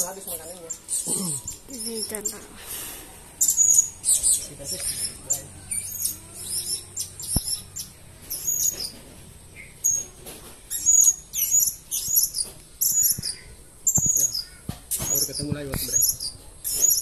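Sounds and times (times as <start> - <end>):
parrots chirping: 0.0 - 17.0.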